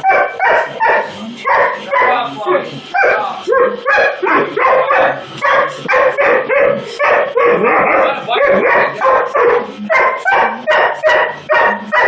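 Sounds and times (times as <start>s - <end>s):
dog barking rapidly: 0.0s - 12.0s.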